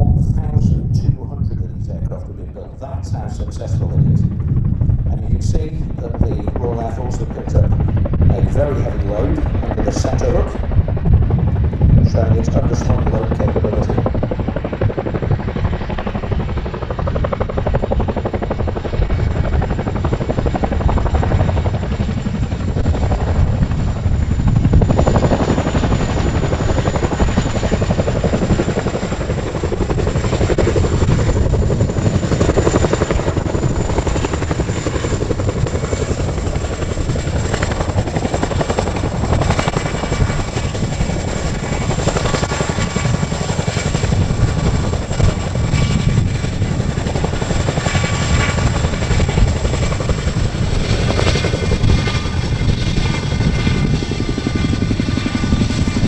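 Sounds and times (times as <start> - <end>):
helicopter rotor noise: 0.0 - 56.0
high turbine whine: 0.0 - 56.0.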